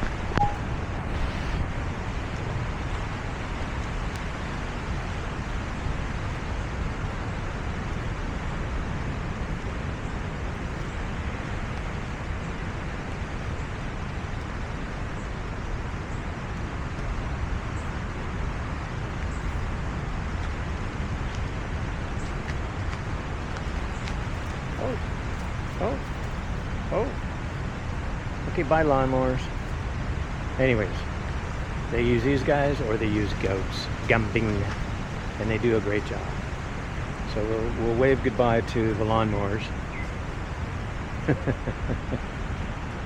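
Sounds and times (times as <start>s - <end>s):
wind on microphone: 0.0s - 43.0s.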